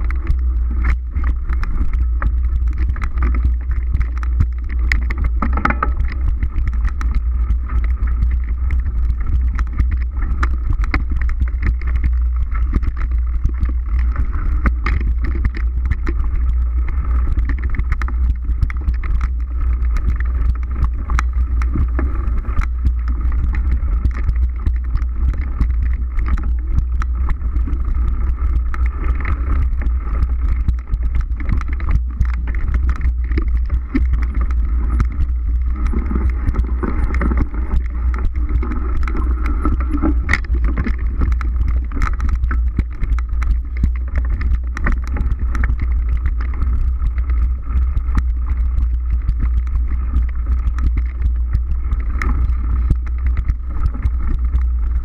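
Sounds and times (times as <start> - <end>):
bike rattling on bumpy trail: 0.0 - 55.0.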